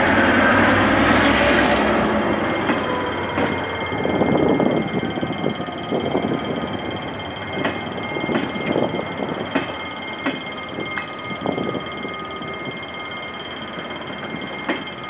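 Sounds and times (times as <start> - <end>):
wheels knocking on rail joints: 0.0 - 12.8, 13.6 - 15.0
train coaches rumbling past: 0.0 - 15.0.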